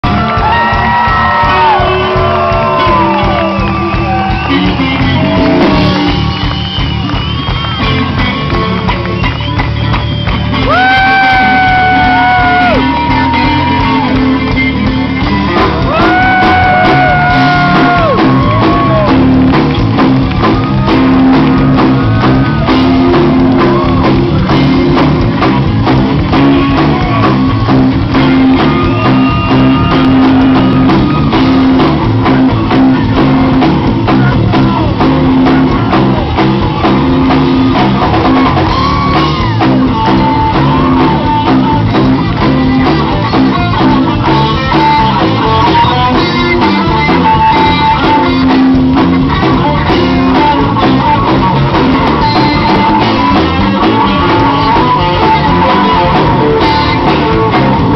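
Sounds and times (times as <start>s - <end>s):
bent electric guitar notes: 0.0s - 57.9s
crowd shouting and whooping: 0.0s - 57.9s
electric blues band playing: 0.0s - 57.9s.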